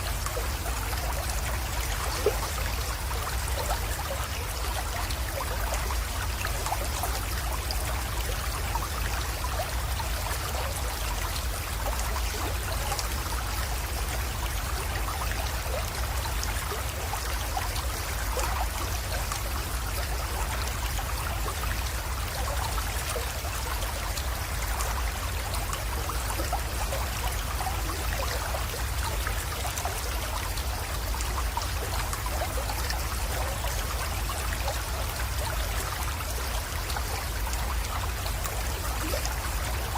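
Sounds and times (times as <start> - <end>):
creek trickling and splashing: 0.0 - 39.9.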